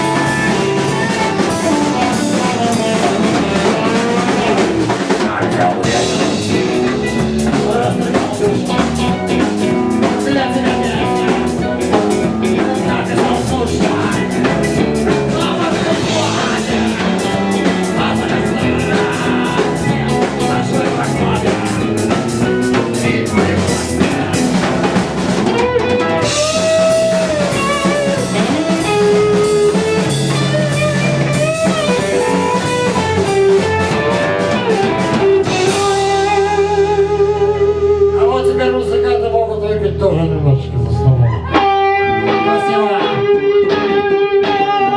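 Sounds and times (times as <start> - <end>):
melodic lead guitar with sliding notes: 0.0 - 44.9
rock band playing: 0.0 - 44.9.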